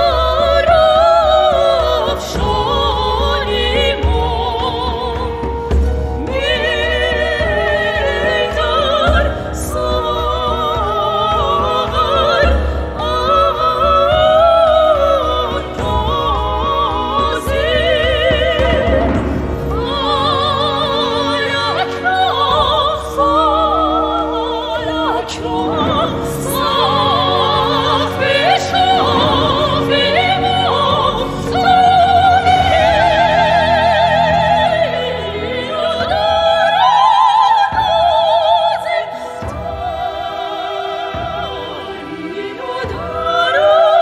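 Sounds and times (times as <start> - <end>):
operatic singing voice: 0.0 - 44.0
orchestral accompaniment: 0.0 - 44.0.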